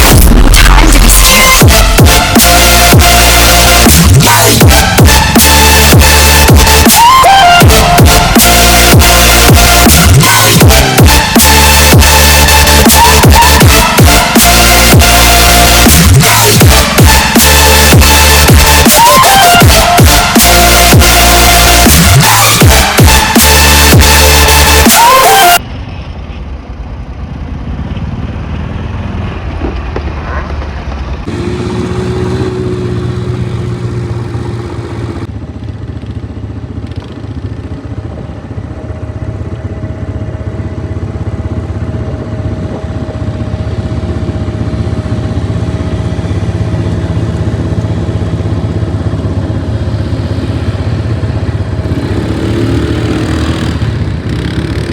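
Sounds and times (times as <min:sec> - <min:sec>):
quad bike engine running: 0:00.0 - 0:24.9, 0:31.2 - 0:54.9.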